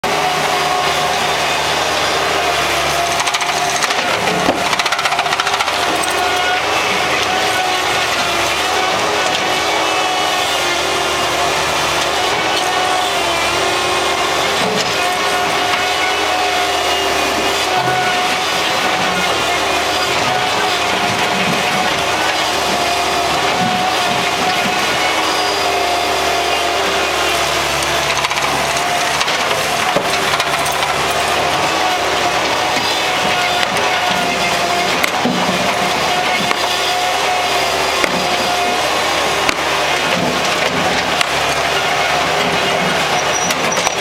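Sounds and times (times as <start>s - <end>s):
skid steer mechanical din: 0.0s - 44.0s.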